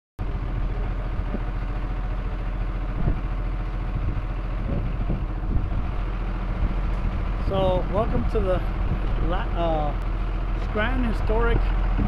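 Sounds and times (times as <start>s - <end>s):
engine humming: 0.2s - 12.0s.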